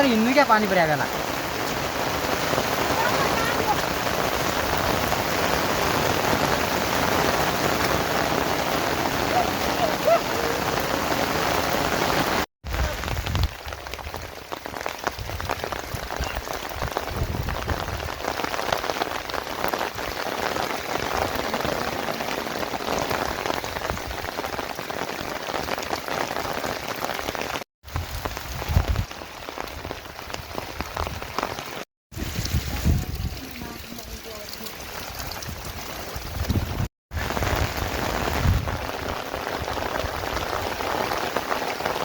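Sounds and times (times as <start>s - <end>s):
rain pattering: 0.0s - 42.0s.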